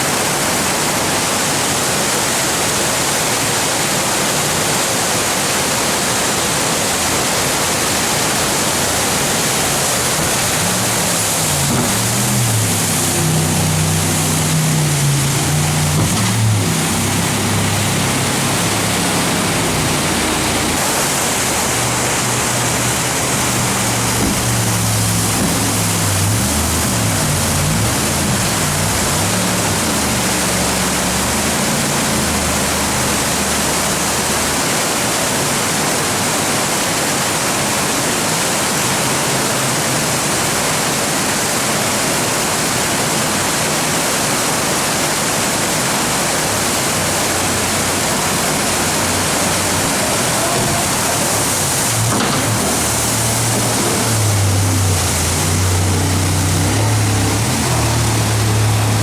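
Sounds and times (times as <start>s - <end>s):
jet boat engine: 0.0s - 59.0s
river whitewater rushing: 0.0s - 59.0s.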